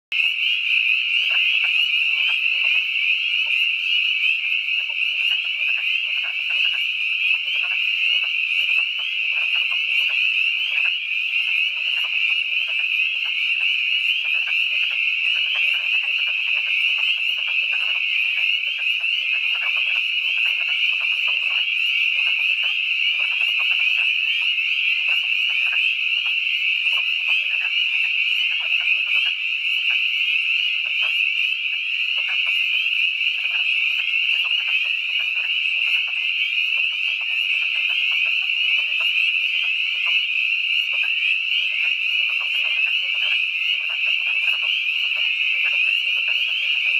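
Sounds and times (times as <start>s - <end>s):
spring peepers chorus: 0.1s - 46.9s
wood frogs calling: 0.1s - 46.9s.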